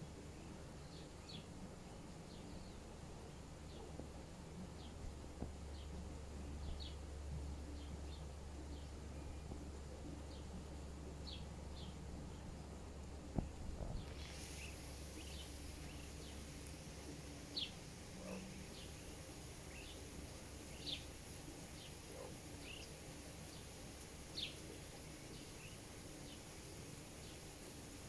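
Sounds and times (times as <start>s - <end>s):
faint high hiss: 0.0s - 28.0s.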